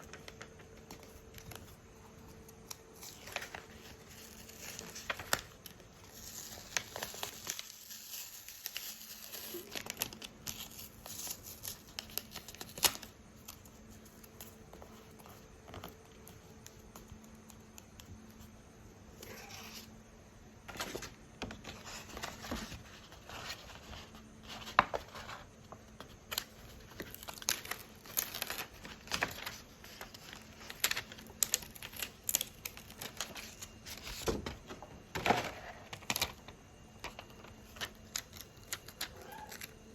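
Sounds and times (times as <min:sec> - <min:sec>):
paper and plastic crinkling: 0:00.0 - 0:18.5, 0:20.7 - 0:39.9
faint steady hum: 0:00.0 - 0:39.9.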